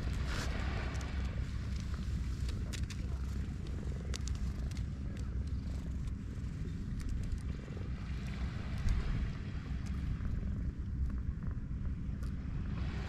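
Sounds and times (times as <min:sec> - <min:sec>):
cat purring: 0:00.0 - 0:12.1.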